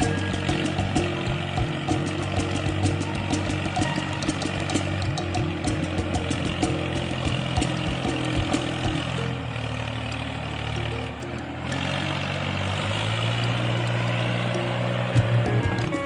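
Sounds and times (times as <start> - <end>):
background music: 0.0 - 16.0
tractor engine running: 0.0 - 16.0.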